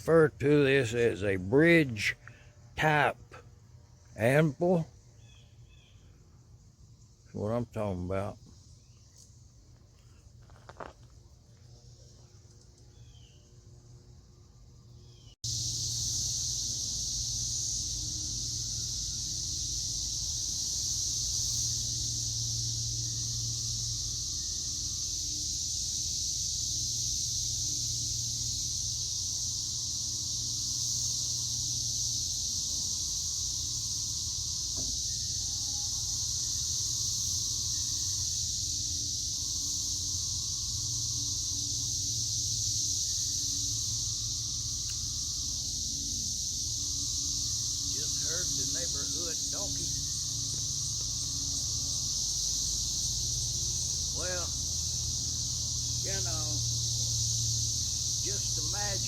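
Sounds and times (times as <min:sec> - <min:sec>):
insects chorus hissing: 0:00.0 - 0:59.0.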